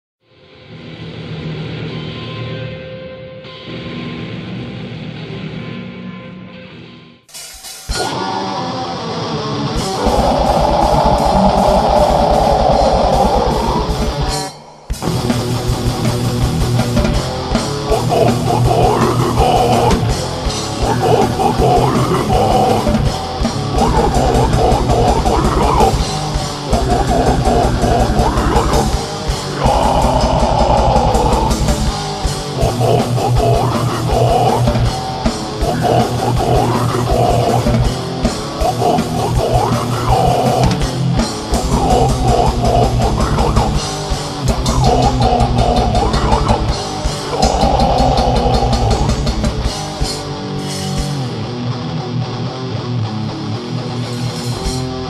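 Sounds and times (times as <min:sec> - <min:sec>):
heavy metal band playing: 0:03.4 - 0:06.9, 0:07.7 - 0:55.0.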